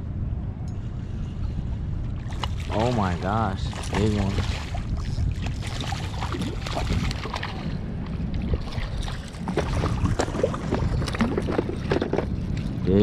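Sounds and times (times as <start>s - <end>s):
low rumble of moving water: 0.0s - 13.0s
fish thrashing and splashing: 2.2s - 12.8s.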